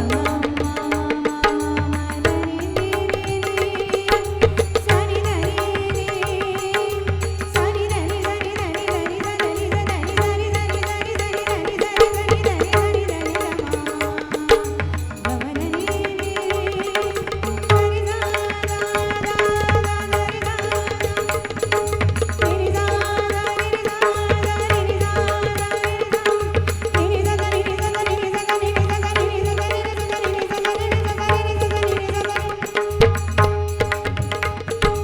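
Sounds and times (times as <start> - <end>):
hand drums playing: 0.0 - 10.6, 11.6 - 35.0.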